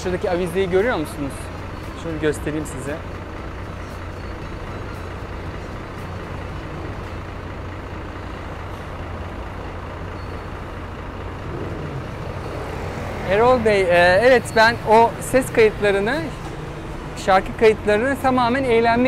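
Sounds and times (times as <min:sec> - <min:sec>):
city road traffic: 0:00.0 - 0:19.0
low engine hum: 0:00.0 - 0:19.0.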